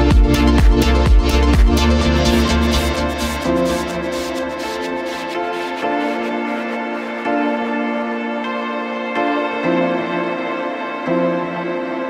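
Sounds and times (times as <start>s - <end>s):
electronic music held chords: 0.0s - 12.0s.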